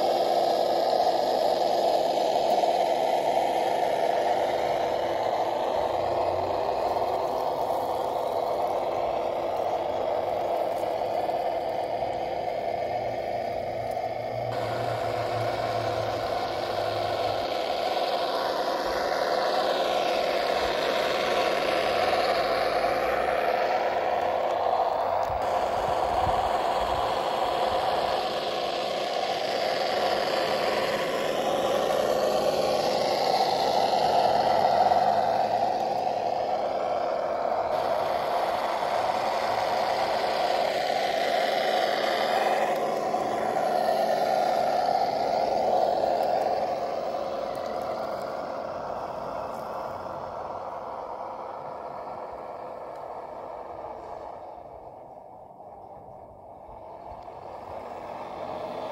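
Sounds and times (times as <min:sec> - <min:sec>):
toy truck motor whining: 0:00.0 - 0:58.9
tyres rattling and scraping on sand: 0:00.0 - 0:58.9.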